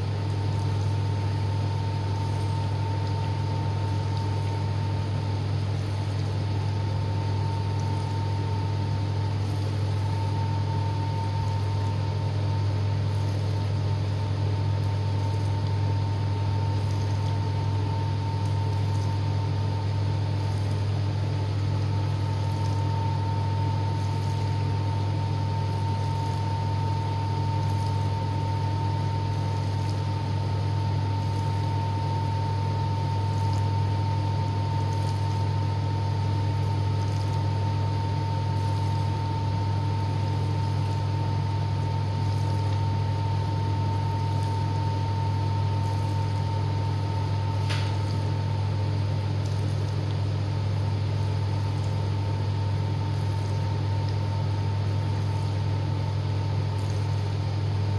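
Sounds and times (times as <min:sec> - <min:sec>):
dishwasher humming: 0:00.0 - 0:57.9
thin steady whine: 0:00.0 - 0:57.9.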